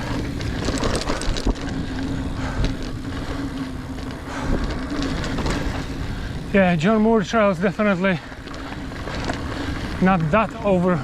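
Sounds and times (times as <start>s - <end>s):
bike clicks and rattles: 0.0s - 11.0s
knobby bike tyres rolling on dirt: 0.0s - 11.0s.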